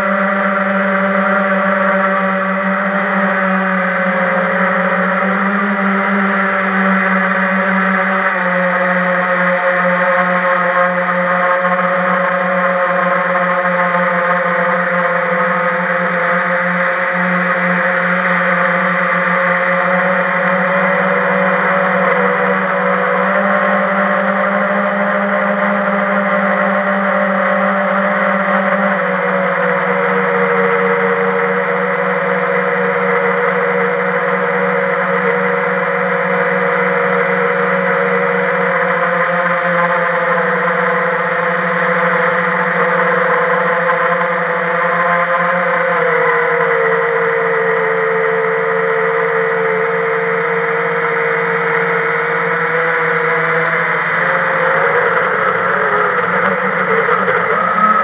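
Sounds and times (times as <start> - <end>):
drone motors whirring: 0.0 - 58.0.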